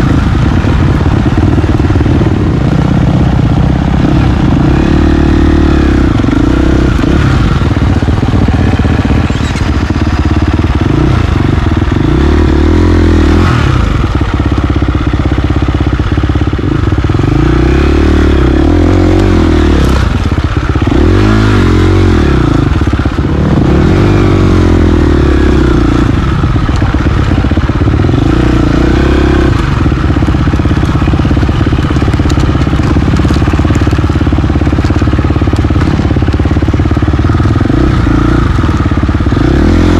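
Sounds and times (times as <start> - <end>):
dirt bike engine revving: 0.0 - 15.0, 16.0 - 39.9.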